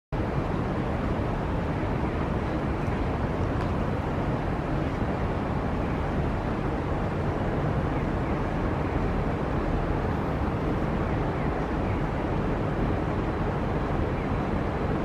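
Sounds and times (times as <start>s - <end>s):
city background rumble: 0.1s - 15.0s.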